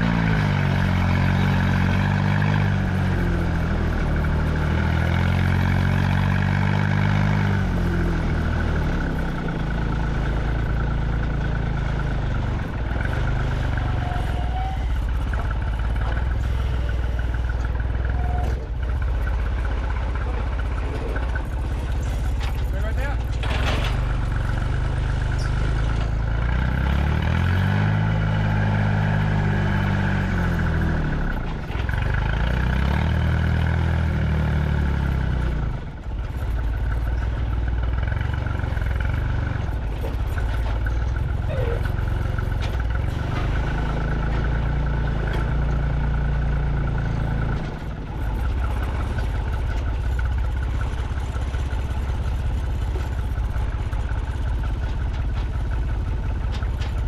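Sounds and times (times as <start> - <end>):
truck engine driving: 0.0 - 57.0.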